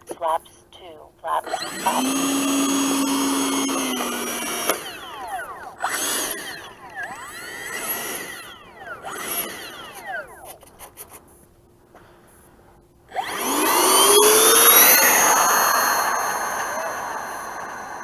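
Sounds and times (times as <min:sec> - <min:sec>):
electric ducted-fan motor whining: 0:01.4 - 0:18.0.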